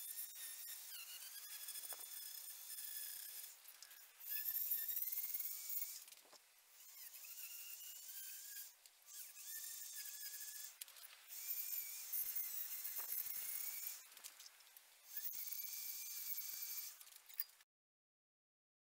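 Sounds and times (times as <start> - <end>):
rotary tool grinding steel: 0.0 - 17.6.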